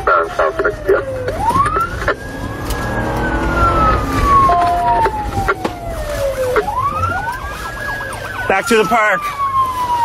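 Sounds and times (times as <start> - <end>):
engine and road rumble: 0.0 - 10.0
police siren wailing: 0.0 - 10.0.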